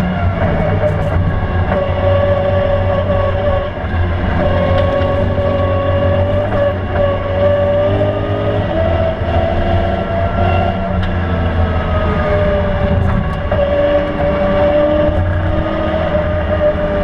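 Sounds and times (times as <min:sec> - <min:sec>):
car engine revving high: 0:00.0 - 0:17.0.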